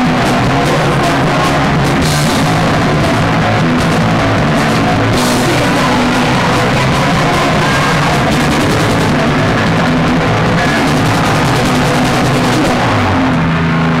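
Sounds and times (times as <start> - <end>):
punk band playing loud: 0.0 - 14.0.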